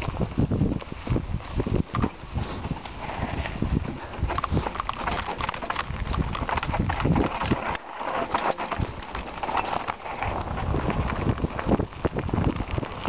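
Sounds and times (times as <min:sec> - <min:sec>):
bike rattling over rocks: 0:00.0 - 0:13.0.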